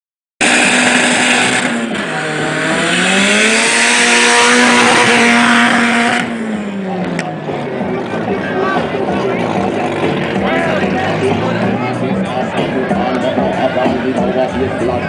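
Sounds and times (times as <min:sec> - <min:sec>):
car engine revving high: 0:00.4 - 0:15.0.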